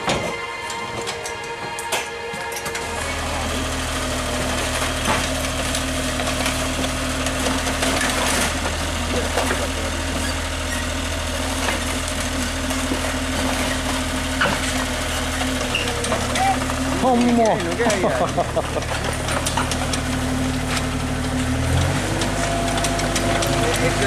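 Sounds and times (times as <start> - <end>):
clanks from crawler tracks: 0.0 - 24.0
excavator diesel engine running: 0.0 - 24.0.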